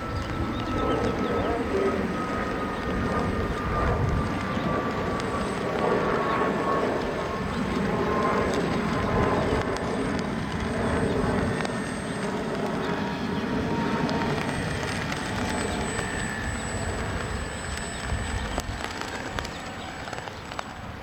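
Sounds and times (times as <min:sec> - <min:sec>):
model airplane motor whine: 0:00.0 - 0:21.0.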